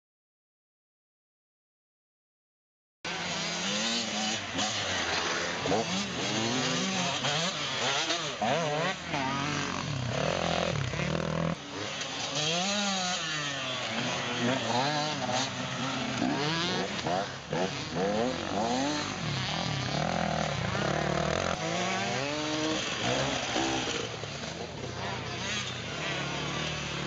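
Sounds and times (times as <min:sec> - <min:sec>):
off-road engines revving: 0:03.1 - 0:27.0.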